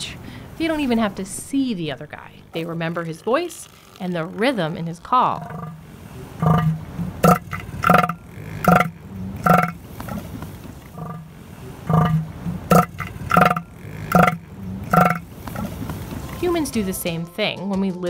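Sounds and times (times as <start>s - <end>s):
elephant seal threat call pulses: 0.0s - 16.7s.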